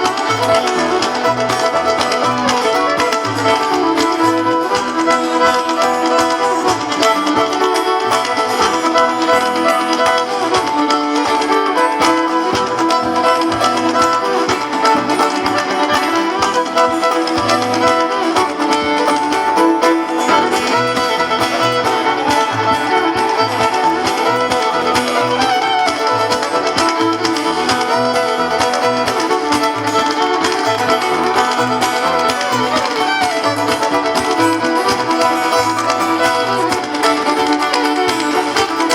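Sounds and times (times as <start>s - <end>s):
banjo: 0.0s - 38.9s
fiddle: 0.0s - 38.9s
guitar: 0.0s - 38.9s.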